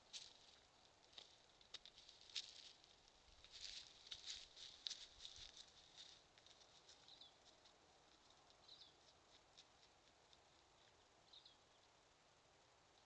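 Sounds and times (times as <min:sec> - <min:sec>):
light footsteps on dry grass: 0:00.0 - 0:12.0.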